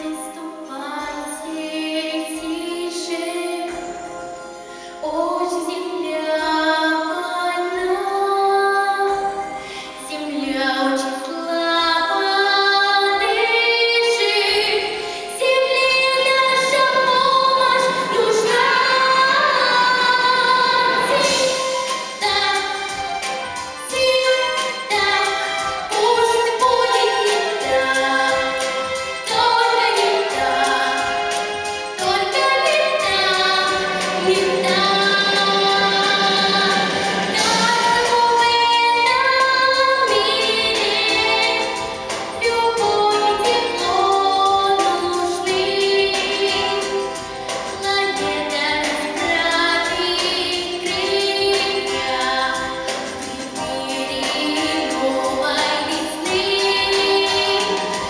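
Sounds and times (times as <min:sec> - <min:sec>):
backing track: 0:00.0 - 0:58.0
girl singing pop song: 0:00.0 - 0:58.0.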